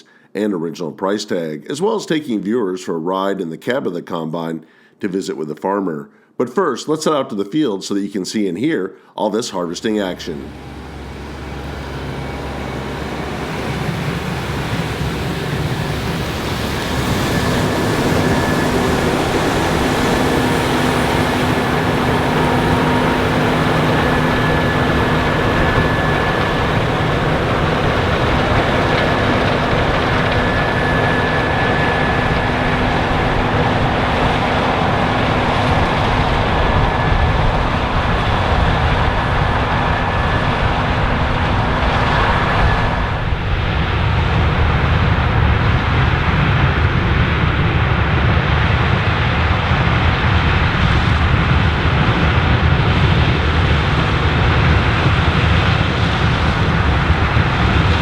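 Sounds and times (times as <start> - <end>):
combine harvester running: 9.7 - 58.0.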